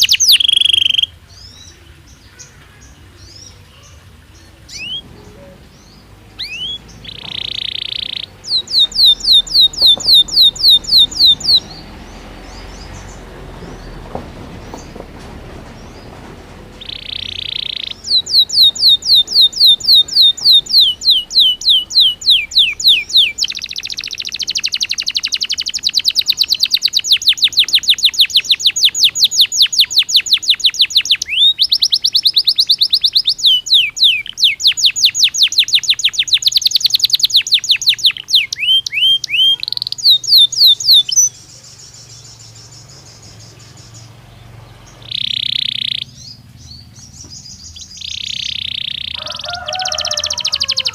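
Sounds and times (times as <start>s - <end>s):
canary trilling: 0.0s - 50.9s.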